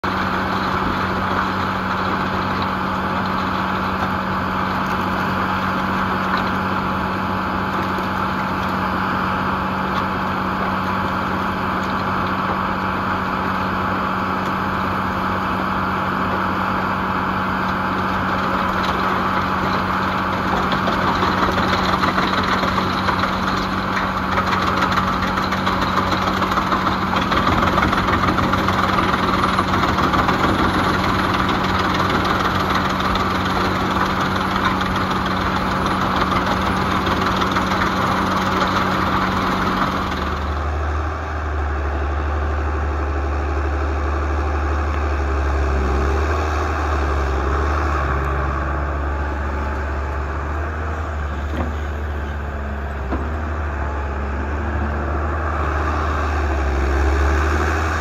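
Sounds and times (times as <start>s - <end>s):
tractor diesel engine droning: 0.0s - 58.0s
wood chipper running: 0.0s - 58.0s.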